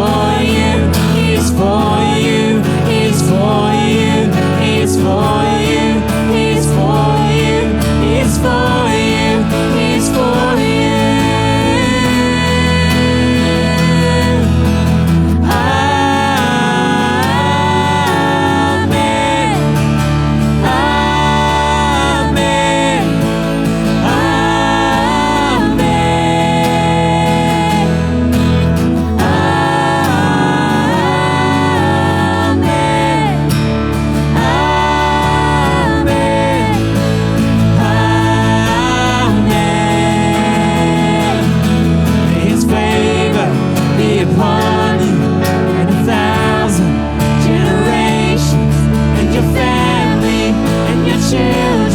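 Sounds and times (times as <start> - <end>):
singers holding long notes: 0.0 - 51.9
sustained bass: 0.0 - 51.9
worship band playing: 0.0 - 51.9.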